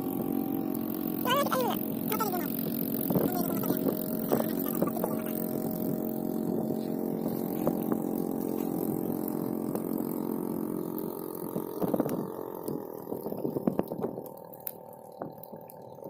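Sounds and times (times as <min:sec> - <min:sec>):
motor droning: 0:00.0 - 0:16.0
sharp crackles: 0:00.4 - 0:16.0.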